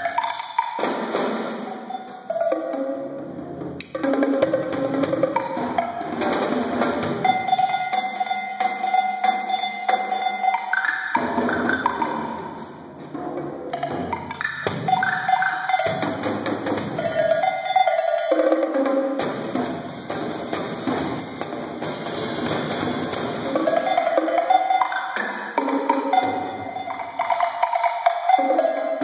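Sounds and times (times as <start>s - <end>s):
drum kit and percussion playing: 0.0s - 29.0s.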